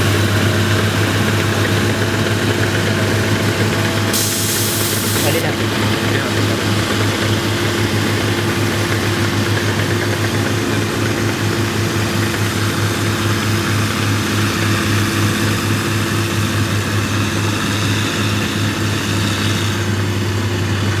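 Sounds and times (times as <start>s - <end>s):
combine harvester engine droning: 0.0s - 21.0s.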